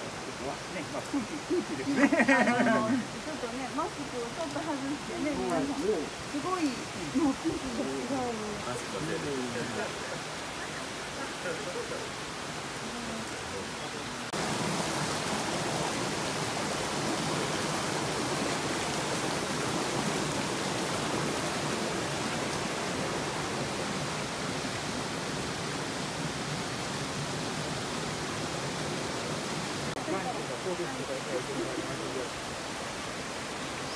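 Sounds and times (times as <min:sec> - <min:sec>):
running water rushing: 0:00.0 - 0:33.9.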